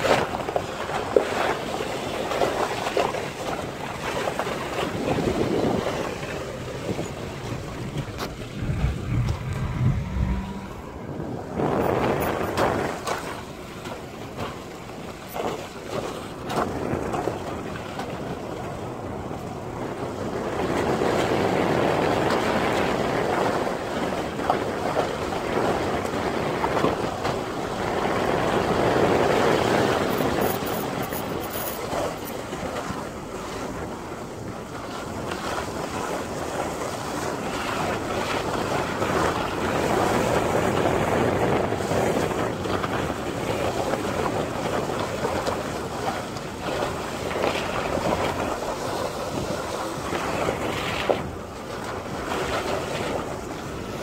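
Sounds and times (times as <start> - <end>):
engine and tyre rumble on wet road: 0.0 - 54.0
wind buffeting microphone: 0.0 - 54.0.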